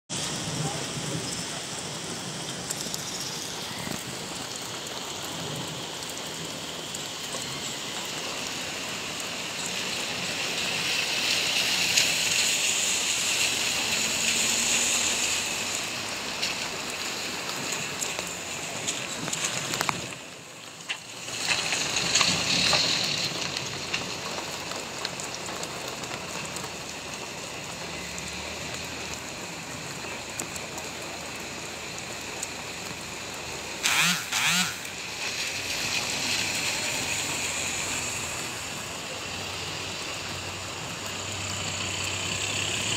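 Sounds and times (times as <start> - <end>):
heavy rain on hard surfaces: 0.1 - 42.9.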